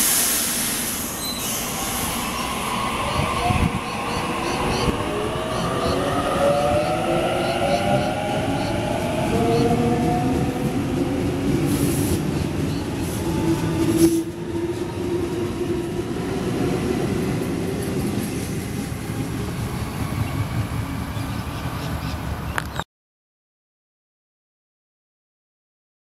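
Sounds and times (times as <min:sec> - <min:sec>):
train whine: 0:00.0 - 0:22.5
wheels rumbling on rail: 0:00.0 - 0:22.8.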